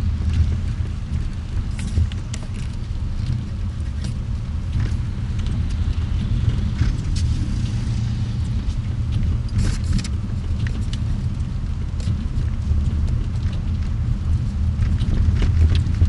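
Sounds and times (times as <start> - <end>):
car engine and road rumble: 0.0 - 16.0
clicks and rattles in car cabin: 0.1 - 7.3, 8.5 - 16.0.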